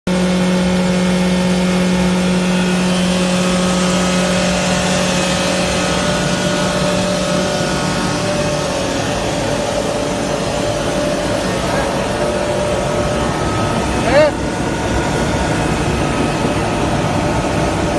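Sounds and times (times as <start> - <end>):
electric grinder whining: 0.1 - 17.9.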